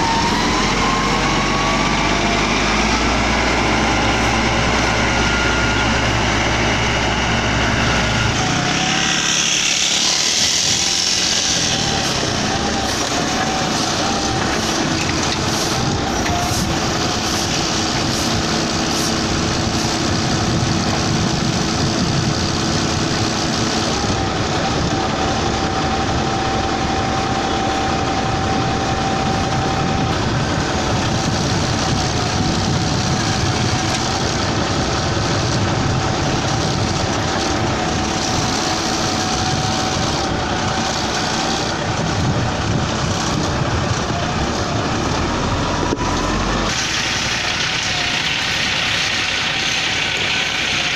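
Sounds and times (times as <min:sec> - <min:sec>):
deep engine hum: 0:00.0 - 0:50.9
diesel engine running: 0:00.0 - 0:50.9.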